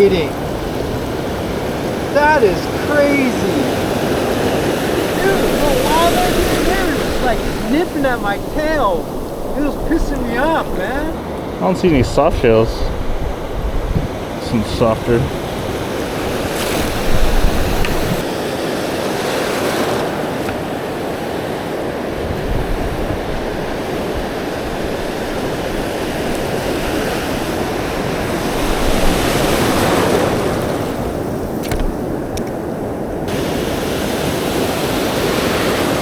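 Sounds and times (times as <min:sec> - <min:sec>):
ocean surf breaking on beach: 0:00.0 - 0:36.0
wind buffeting microphone: 0:00.0 - 0:36.0.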